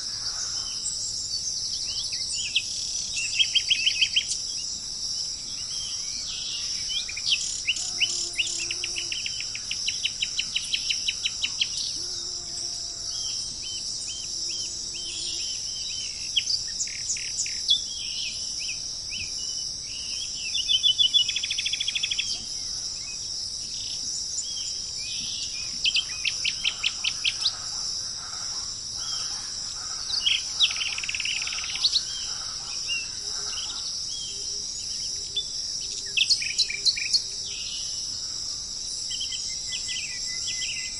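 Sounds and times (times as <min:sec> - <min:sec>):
high-pitched insect chorus: 0:00.0 - 0:40.9
songbirds trilling and chirping: 0:00.0 - 0:40.9.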